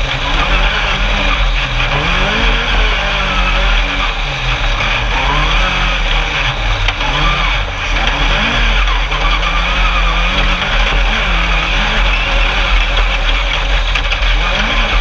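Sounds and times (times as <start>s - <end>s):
buggy engine revving: 0.0s - 15.0s
steady rushing noise: 0.0s - 15.0s.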